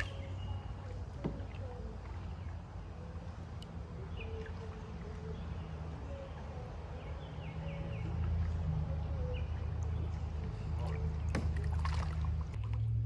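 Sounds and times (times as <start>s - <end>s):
birds chirping: 0.0s - 12.6s
water rumbling against a hull: 0.0s - 13.0s.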